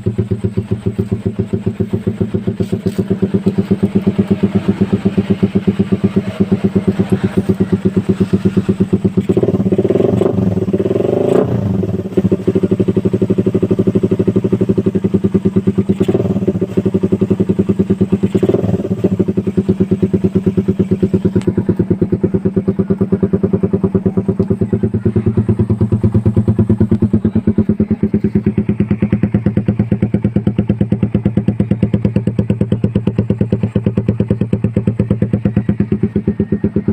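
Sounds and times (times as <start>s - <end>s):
motorcycle idling and revving: 0.0s - 36.9s.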